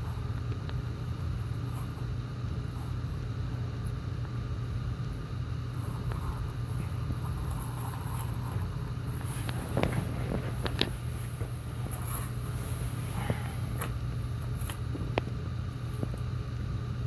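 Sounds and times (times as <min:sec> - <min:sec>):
pet crunching food: 0:00.0 - 0:16.5
steady low hum: 0:00.0 - 0:17.0.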